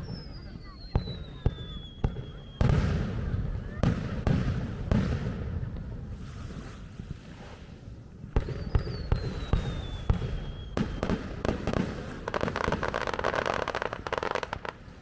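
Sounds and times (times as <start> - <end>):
fireworks bangs: 0.0 - 7.4, 8.3 - 15.0
rapid firework crackling: 0.0 - 15.0.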